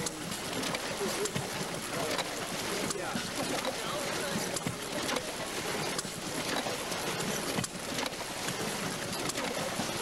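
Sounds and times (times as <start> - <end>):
water gushing and splashing: 0.0 - 10.0.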